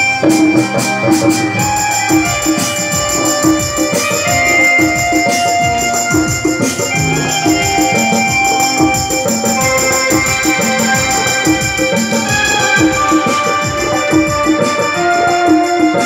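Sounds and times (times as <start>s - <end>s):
melody of long held notes: 0.0s - 16.0s
steady rhythmic beat: 0.0s - 16.0s.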